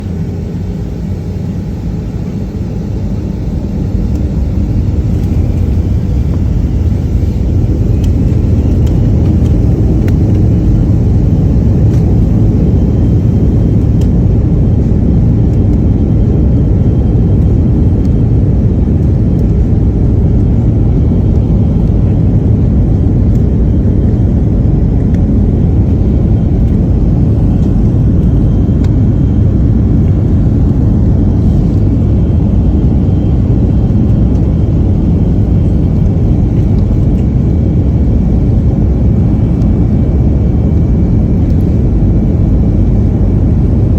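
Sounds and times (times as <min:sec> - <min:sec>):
jet engine rumble in cabin: 0:00.0 - 0:43.9.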